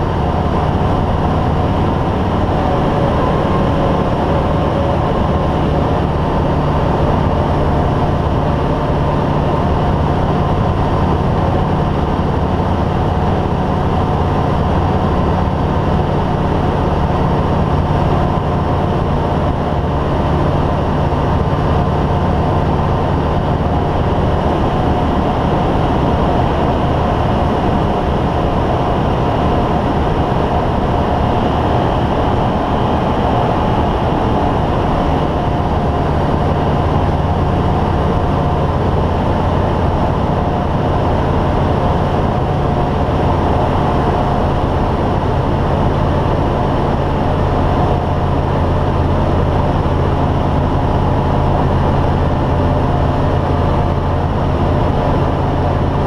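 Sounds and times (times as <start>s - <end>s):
aircraft propeller engine drone: 0.0s - 56.0s.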